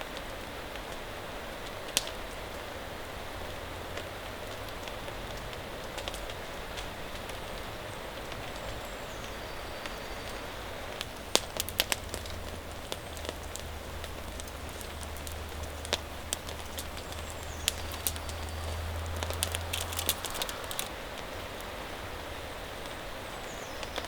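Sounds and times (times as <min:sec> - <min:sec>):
steady rain: 0:00.0 - 0:24.0
campfire pops and crackles: 0:00.1 - 0:24.0.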